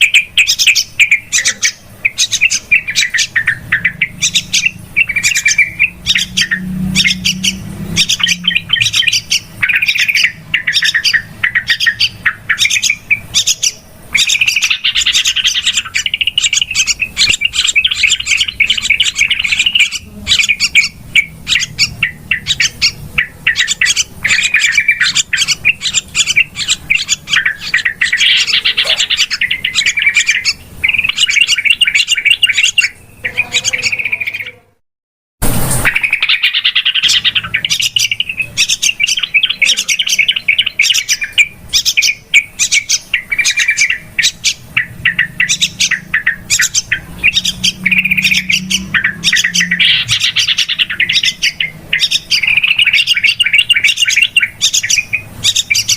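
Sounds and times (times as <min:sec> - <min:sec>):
bulbuls chattering: 0:00.0 - 0:34.8, 0:35.8 - 0:55.9.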